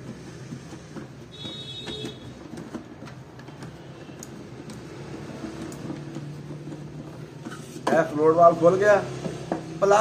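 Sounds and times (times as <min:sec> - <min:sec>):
plastic clicks and scrapes: 0:00.0 - 0:08.1.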